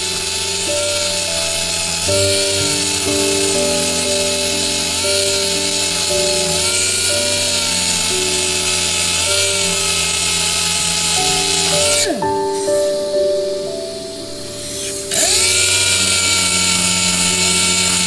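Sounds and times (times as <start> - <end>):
sander on metal sheet: 0.0 - 13.0, 14.6 - 18.0
background music: 0.0 - 18.0.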